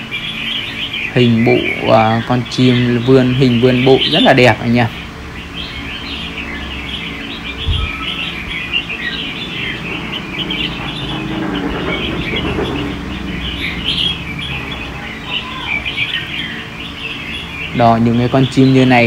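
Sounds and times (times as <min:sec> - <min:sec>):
birds chirping and calling: 0:00.0 - 0:19.0
steady low hum: 0:00.0 - 0:19.0.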